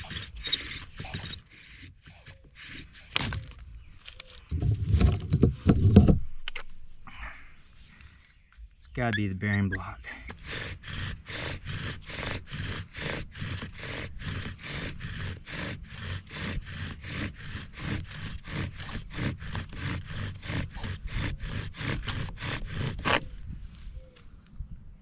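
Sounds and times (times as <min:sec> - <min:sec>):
wooden spindle scraping and squeaking: 0:00.0 - 0:07.0, 0:07.6 - 0:24.2.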